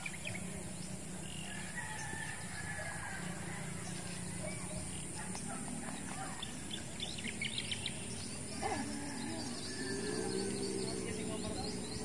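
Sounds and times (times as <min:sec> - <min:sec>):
distant birds calling: 0:00.0 - 0:12.0.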